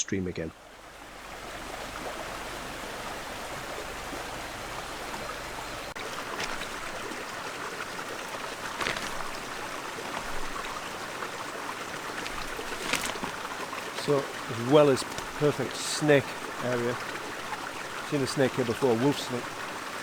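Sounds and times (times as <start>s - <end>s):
stream running over stones: 0.6s - 20.0s
water splashing: 1.0s - 20.0s.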